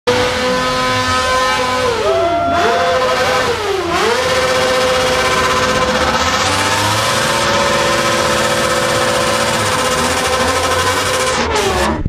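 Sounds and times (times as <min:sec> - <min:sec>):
motorcycle engine revving: 0:00.1 - 0:12.0.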